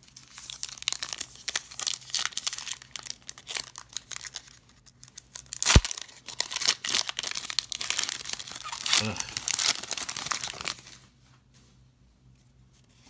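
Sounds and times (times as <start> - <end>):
foil pack crinkling and tearing: 0.0 - 11.0.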